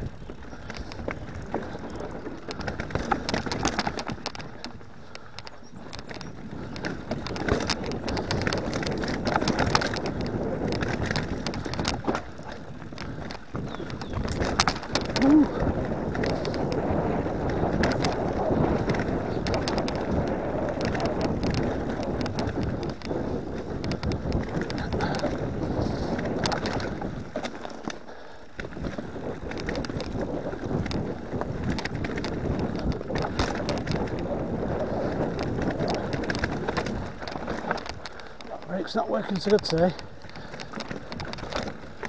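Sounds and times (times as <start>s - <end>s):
bike tyres on dirt: 0.0s - 42.0s
chain and frame rattling: 0.0s - 42.0s
wind on microphone: 0.0s - 42.0s.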